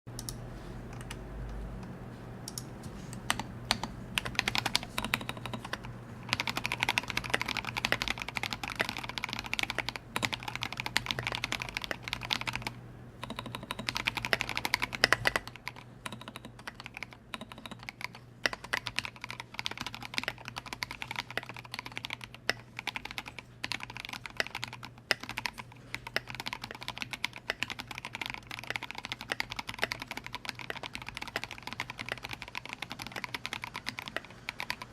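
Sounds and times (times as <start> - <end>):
mechanical keyboard typing: 2.5 - 34.9.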